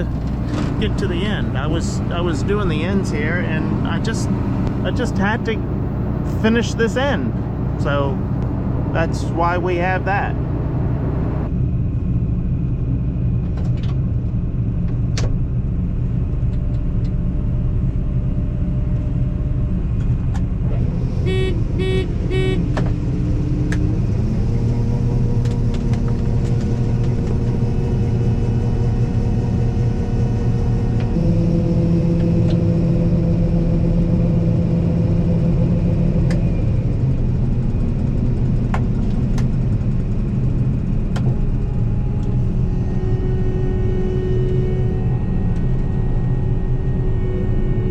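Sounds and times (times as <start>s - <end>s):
combine harvester drone: 0.0s - 47.9s.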